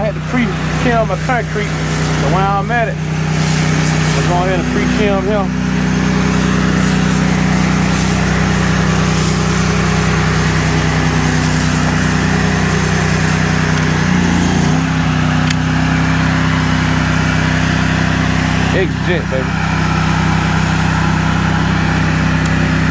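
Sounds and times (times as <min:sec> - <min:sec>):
high-pressure spray hissing: 0:00.0 - 0:22.9
pressure washer engine running: 0:00.0 - 0:22.9.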